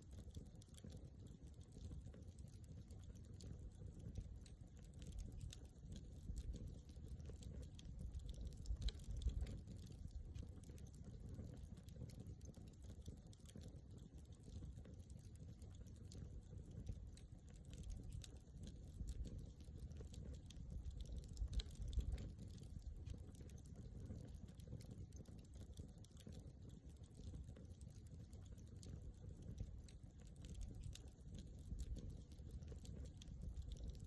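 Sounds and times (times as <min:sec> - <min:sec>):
campfire crackling and popping: 0:00.0 - 0:34.0
low rumble of flames: 0:00.0 - 0:34.0.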